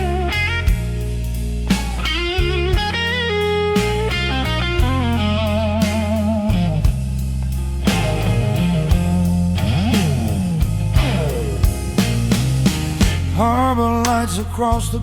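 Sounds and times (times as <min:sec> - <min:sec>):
electric guitar lead: 0:00.0 - 0:13.7
bass guitar: 0:00.0 - 0:15.0
drum kit beat: 0:00.0 - 0:15.0.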